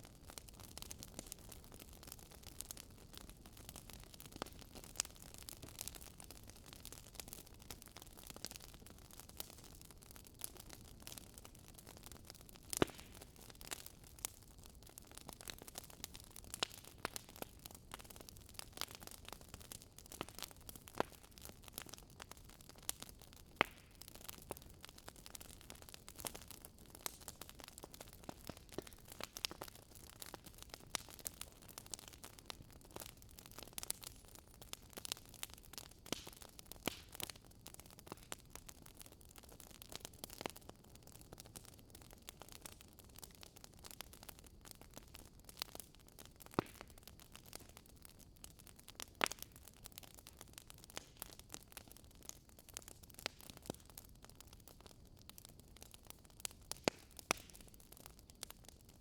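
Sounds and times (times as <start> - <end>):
fire hissing softly: 0.0 - 59.0
wood fire crackling: 0.0 - 59.0.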